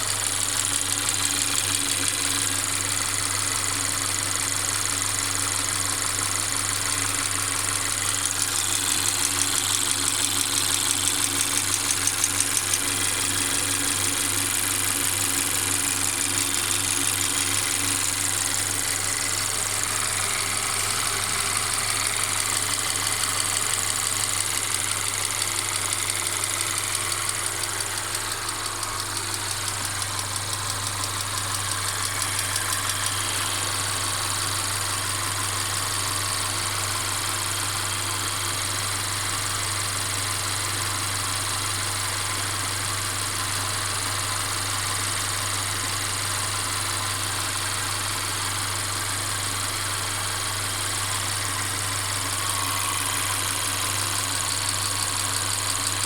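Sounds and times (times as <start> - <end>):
car engine idling with rattling: 0.0 - 56.0.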